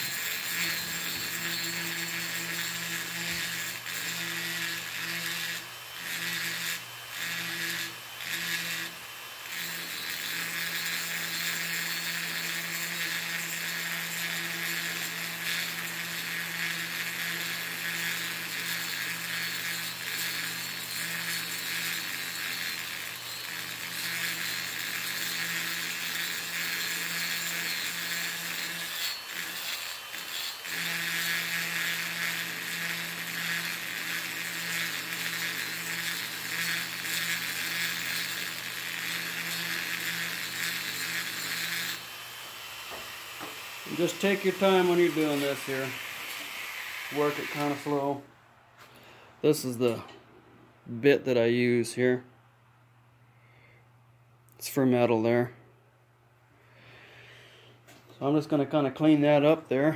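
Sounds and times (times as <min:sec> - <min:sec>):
rotary tool grinding metal: 0:00.0 - 0:48.2.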